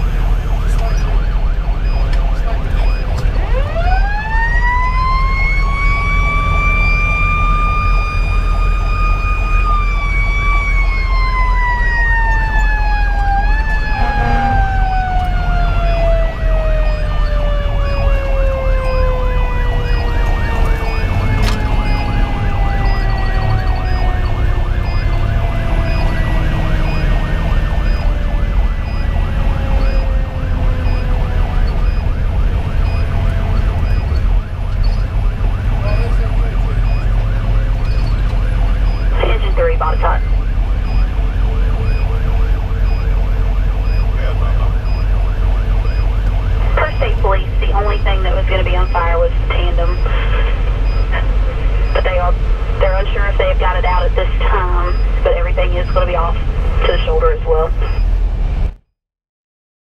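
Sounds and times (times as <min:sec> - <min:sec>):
mechanical siren wailing: 0:00.0 - 0:58.1
diesel engine drone: 0:00.0 - 0:58.8
road noise: 0:00.0 - 0:58.8.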